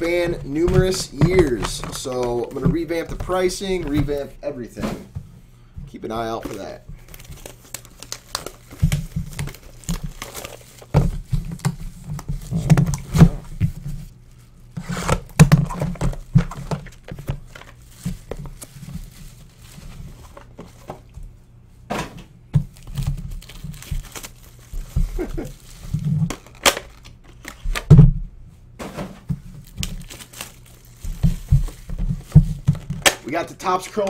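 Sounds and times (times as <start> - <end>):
foil wrappers crinkling and tearing: 0.0 - 4.4, 6.1 - 20.9, 22.7 - 27.9, 29.4 - 34.0.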